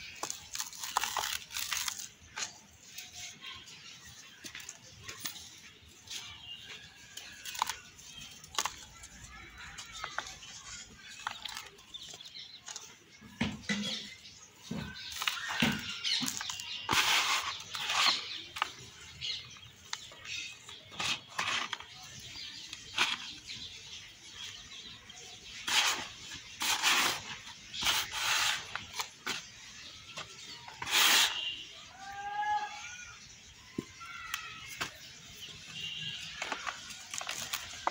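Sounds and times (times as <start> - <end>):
gritty crunches of soil lumps: 0.0 - 37.9.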